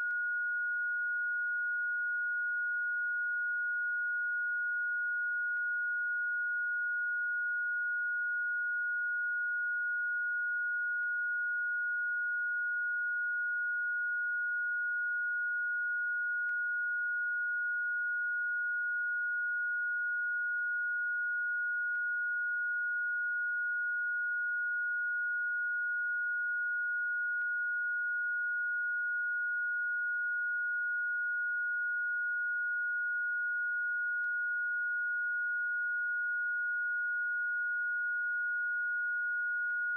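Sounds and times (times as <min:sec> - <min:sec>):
high sine tone: 0:00.0 - 0:39.9.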